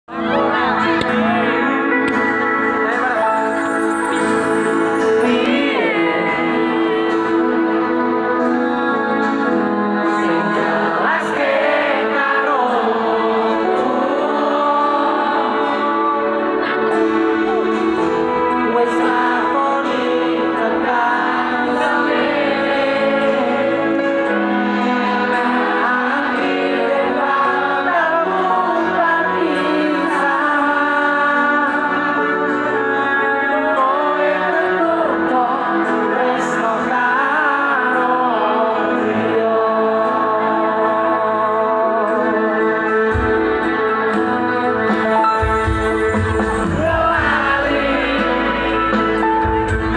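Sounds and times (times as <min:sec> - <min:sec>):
live concert music with singing: 0:00.0 - 0:49.9.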